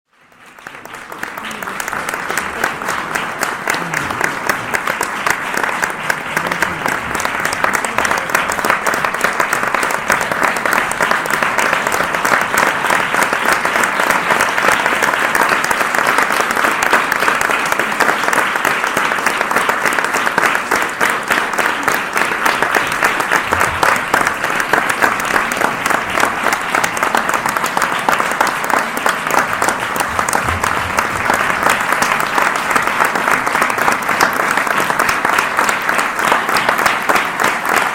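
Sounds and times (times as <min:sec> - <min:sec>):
audience applauding: 0:00.1 - 0:37.9.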